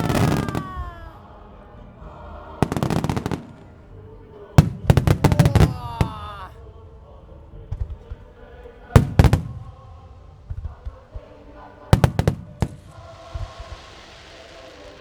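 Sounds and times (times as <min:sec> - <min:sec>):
faint crackling hiss: 0:00.0 - 0:15.0
fireworks bursting with bangs: 0:00.0 - 0:15.0
music playing: 0:00.0 - 0:15.0.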